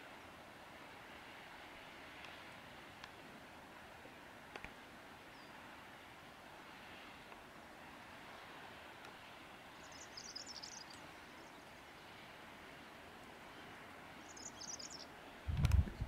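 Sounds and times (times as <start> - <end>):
outdoor hiss: 0.0 - 15.5.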